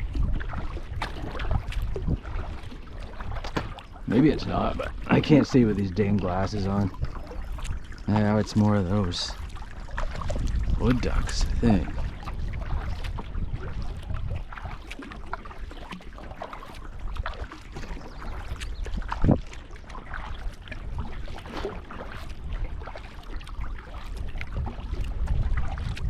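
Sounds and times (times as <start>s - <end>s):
water lapping and splashing: 0.0s - 26.0s
wind rumble on microphone: 0.0s - 26.0s.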